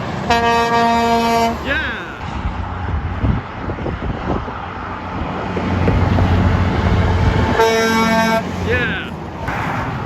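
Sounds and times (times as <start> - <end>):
truck engine and tyre rumble: 0.0 - 10.0.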